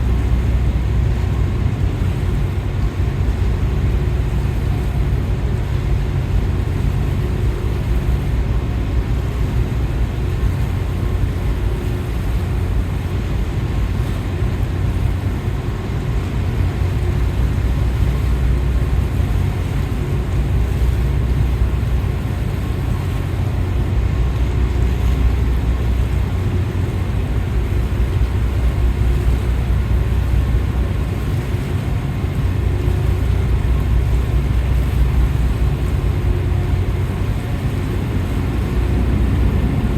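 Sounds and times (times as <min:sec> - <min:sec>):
ship engines rumbling: 0:00.0 - 0:39.9
wind noise: 0:00.0 - 0:39.9.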